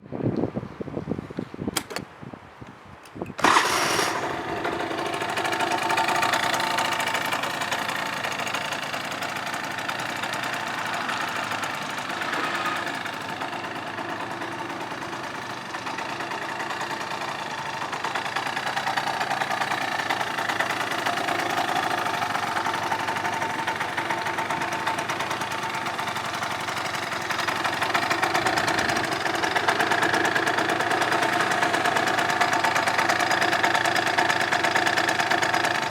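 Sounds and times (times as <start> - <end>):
scooter engine starting and idling: 1.7 - 2.1, 3.1 - 35.9.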